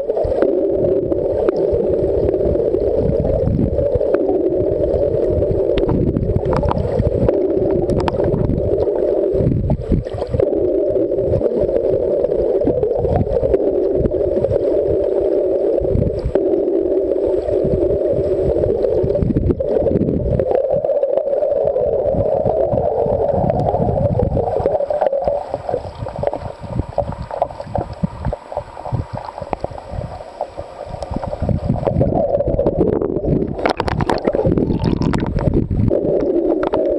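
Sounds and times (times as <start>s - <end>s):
steady hum: 0.0s - 36.9s
underwater rumbling and crackling: 0.0s - 36.9s.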